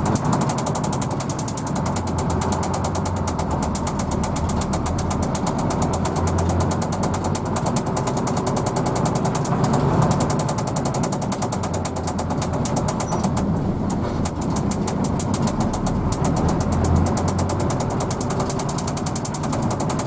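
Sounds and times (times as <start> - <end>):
diesel bus engine droning: 0.0 - 20.0
fast even ticking: 0.1 - 20.0.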